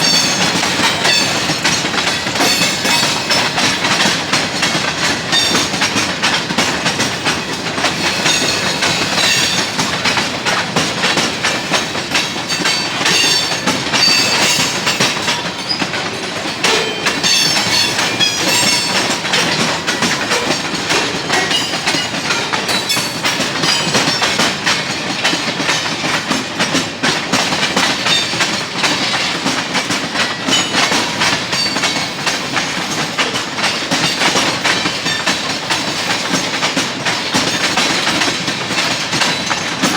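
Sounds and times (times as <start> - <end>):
freight train wheels clacking: 0.0 - 39.9.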